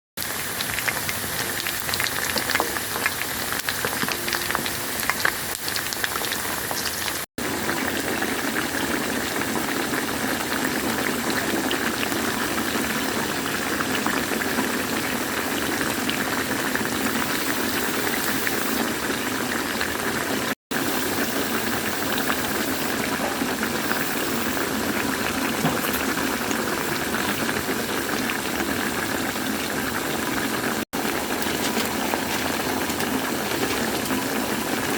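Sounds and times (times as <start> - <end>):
chicken deep-frying in oil: 0.2 - 34.9.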